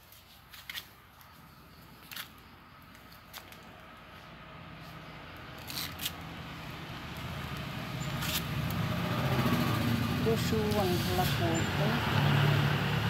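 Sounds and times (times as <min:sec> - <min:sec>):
passing vehicle engine rumble: 0:01.0 - 0:13.0.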